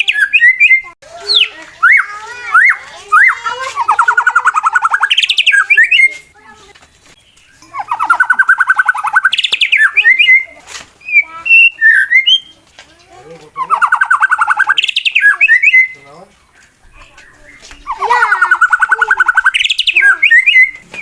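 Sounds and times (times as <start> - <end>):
songbird singing whistles and trills: 0.0 - 6.4, 7.2 - 12.6, 13.6 - 21.0.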